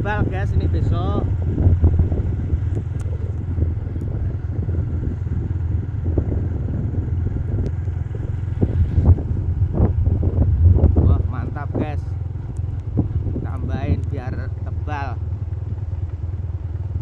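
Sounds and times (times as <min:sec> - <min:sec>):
motorcycle engine droning: 0:00.0 - 0:17.0
road and wind noise: 0:00.0 - 0:17.0.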